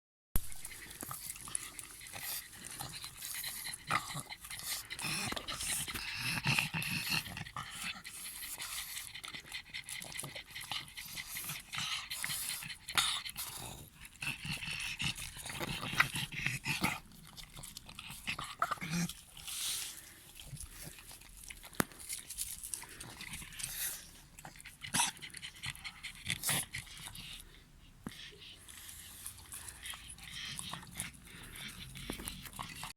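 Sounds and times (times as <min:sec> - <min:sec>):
puppy crunching and chewing: 0:00.4 - 0:32.9
puppy breathing: 0:00.5 - 0:32.9.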